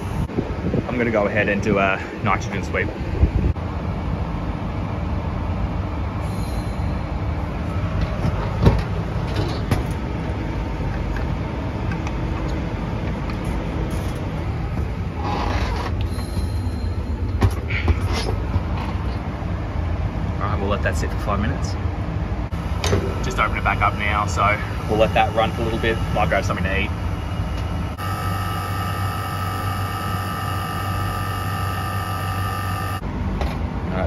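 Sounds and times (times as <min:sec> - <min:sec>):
low mechanical rumble: 0:00.0 - 0:34.0.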